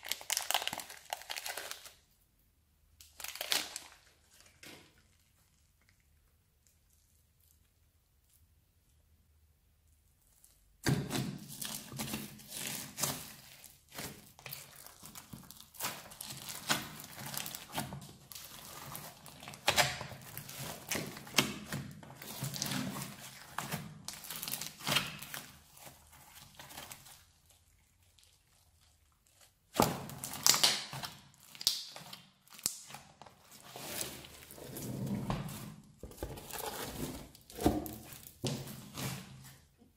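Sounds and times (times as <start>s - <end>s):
slime squishing and crackling: 0.0s - 2.1s, 3.0s - 8.5s, 9.9s - 39.7s.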